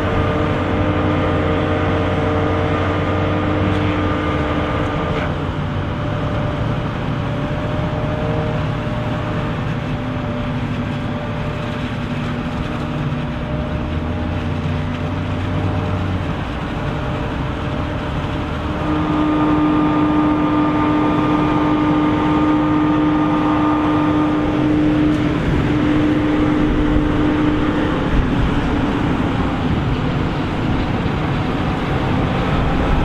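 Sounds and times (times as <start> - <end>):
diesel engines rumbling: 0.0 - 33.0
loud steady whine: 0.0 - 33.0.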